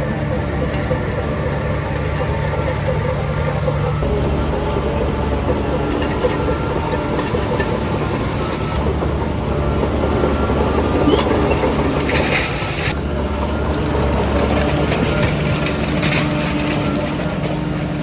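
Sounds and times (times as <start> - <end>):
bulldozer diesel engine running: 0.0 - 18.0
steel tracks clattering: 0.0 - 18.0.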